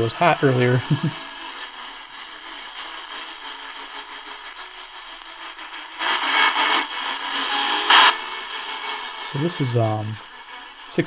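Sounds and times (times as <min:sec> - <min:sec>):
faint radio station: 0:00.0 - 0:11.0
radio static and hiss: 0:00.0 - 0:11.0.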